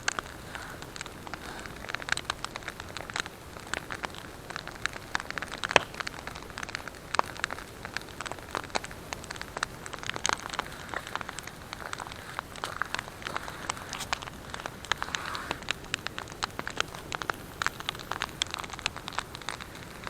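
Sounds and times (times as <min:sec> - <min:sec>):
campfire crackling and popping: 0:00.0 - 0:20.0
steady fire hiss: 0:00.0 - 0:20.0.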